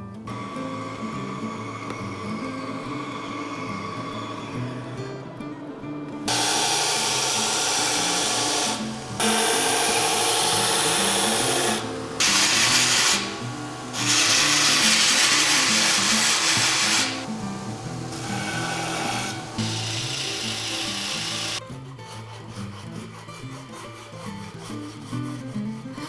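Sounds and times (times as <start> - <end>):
power tool grinding: 0.0 - 25.3
background music: 0.0 - 26.0.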